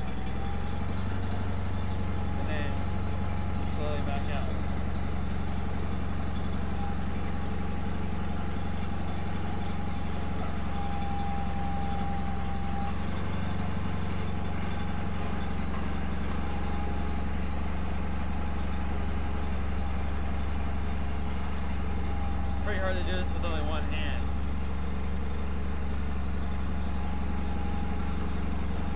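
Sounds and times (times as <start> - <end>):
tractor engine idling: 0.0 - 28.9.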